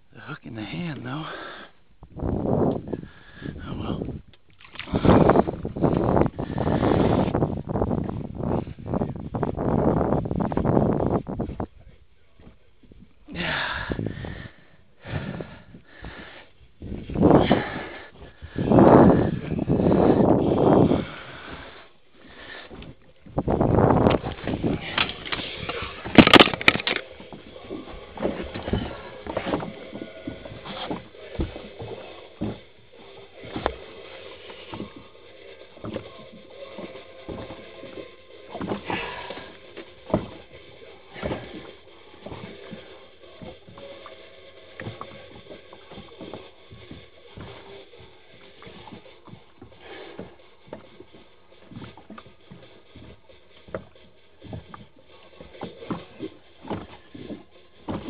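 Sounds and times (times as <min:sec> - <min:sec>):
knocks and thumps in boat: 0:02.0 - 0:58.0.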